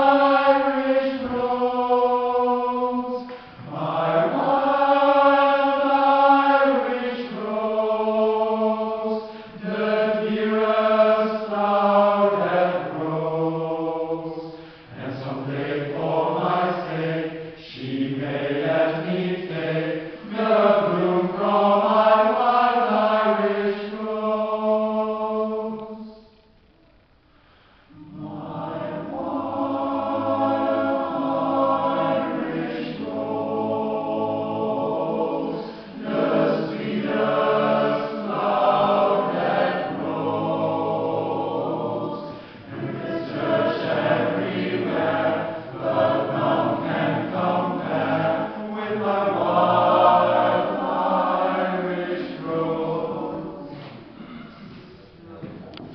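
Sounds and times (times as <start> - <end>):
mixed choir singing in harmony: 0.0 - 26.4, 27.8 - 55.9.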